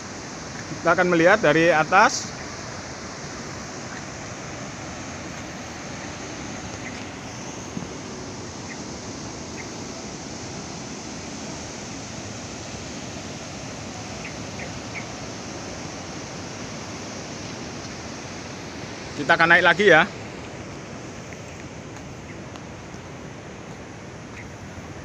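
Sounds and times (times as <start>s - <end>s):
surf breaking on shore: 0.0s - 25.0s
wind: 0.0s - 25.0s.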